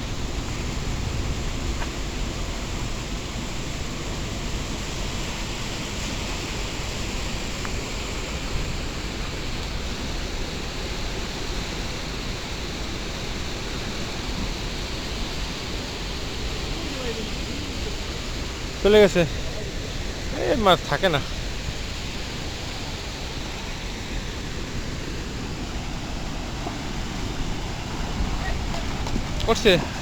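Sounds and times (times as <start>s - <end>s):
wind: 0.0s - 30.0s
river water rushing: 2.3s - 30.0s.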